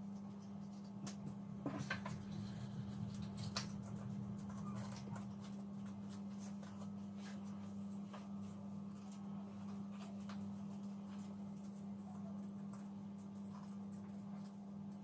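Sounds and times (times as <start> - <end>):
steady low hum: 0.0 - 15.0
paper crinkling: 0.1 - 15.0.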